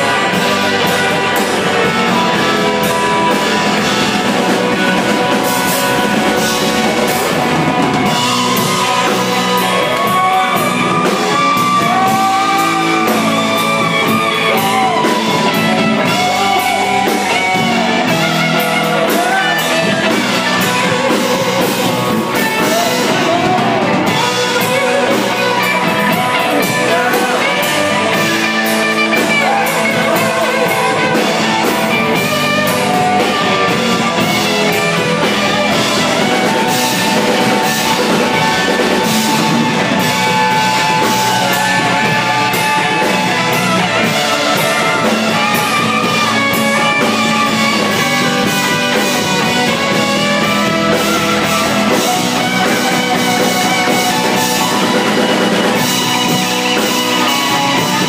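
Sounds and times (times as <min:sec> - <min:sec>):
blues band playing: 0:00.0 - 0:58.0
drum kit beat: 0:00.0 - 0:58.0
electric guitar lead with bends: 0:00.0 - 0:58.0.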